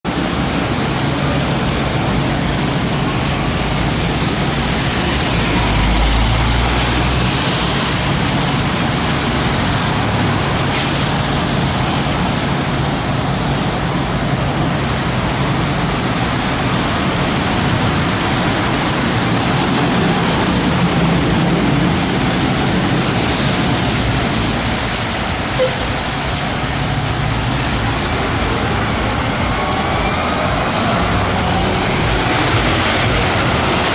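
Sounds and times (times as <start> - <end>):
road traffic: 0.0 - 33.9
truck diesel engine hum: 0.1 - 33.9.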